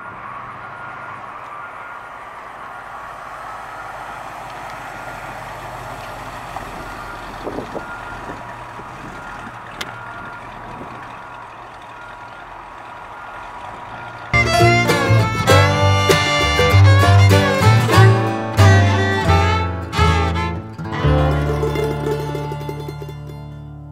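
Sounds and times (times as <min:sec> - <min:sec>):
truck engine running: 0:00.0 - 0:23.9.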